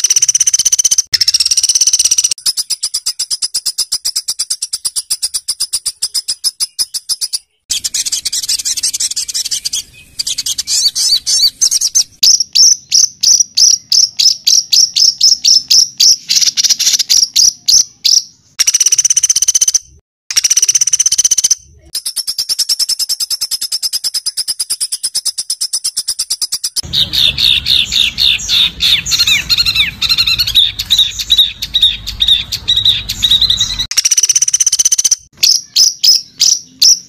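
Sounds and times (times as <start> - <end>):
songbird singing: 0.0 - 19.8, 20.4 - 37.0.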